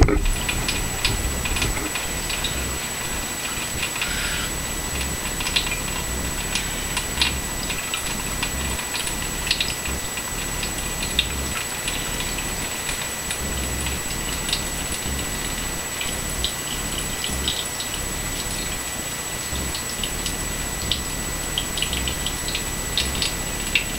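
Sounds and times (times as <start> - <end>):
water running from a faucet: 0.2 - 23.9.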